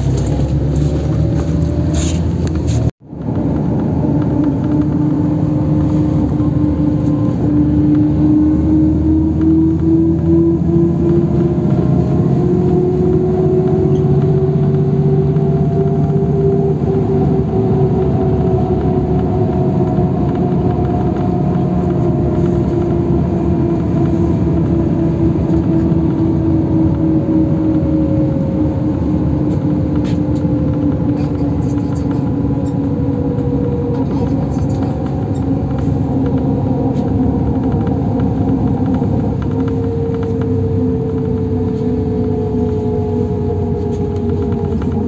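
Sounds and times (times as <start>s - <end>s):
bus engine and road rumble: 0.0s - 45.0s
engine whine: 0.0s - 45.0s.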